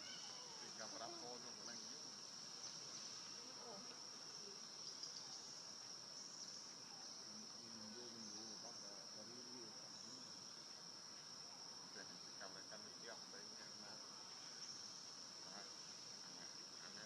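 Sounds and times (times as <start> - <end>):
insects singing: 0.0 - 17.0.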